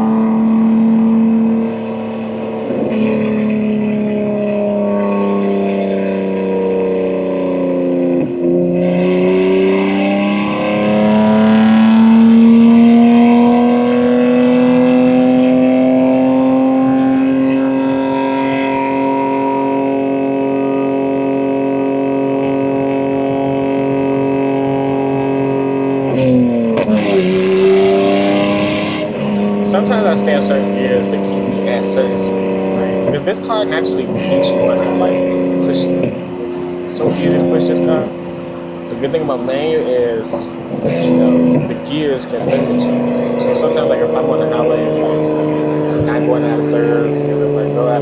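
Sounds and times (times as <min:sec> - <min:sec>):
car engine droning: 0:00.0 - 0:48.0.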